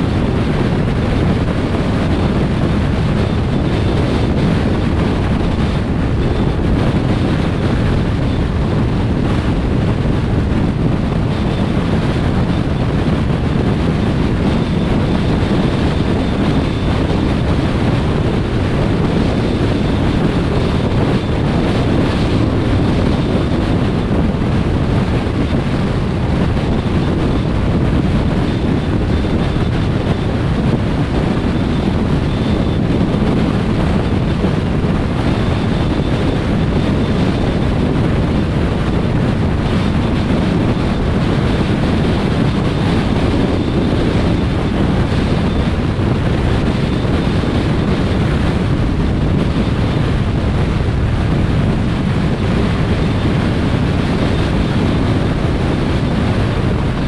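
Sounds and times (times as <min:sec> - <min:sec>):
car road and wind noise: 0:00.0 - 0:57.0.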